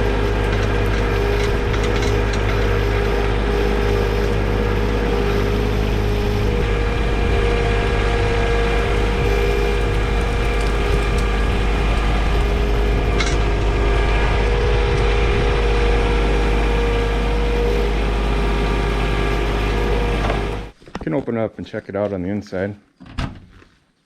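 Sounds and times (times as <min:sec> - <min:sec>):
tractor diesel engine running: 0:00.0 - 0:20.8.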